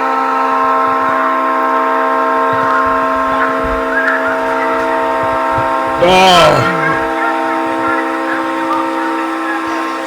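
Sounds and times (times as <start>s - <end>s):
locomotive air horn: 0.0s - 10.0s.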